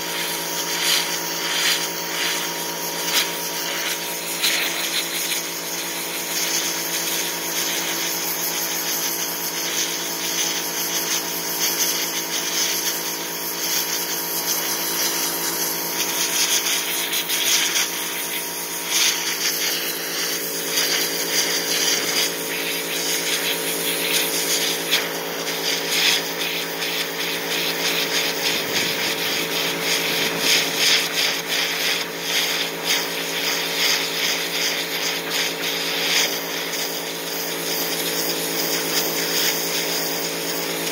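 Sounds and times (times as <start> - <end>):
pressure washer pump humming: 0.0 - 40.9
water jet hissing: 0.0 - 40.9.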